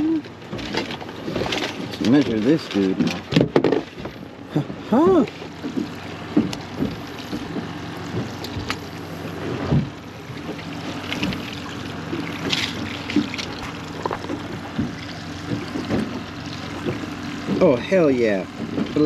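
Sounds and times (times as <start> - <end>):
low hum: 0.0 - 19.0
water lapping at hull: 0.0 - 19.0.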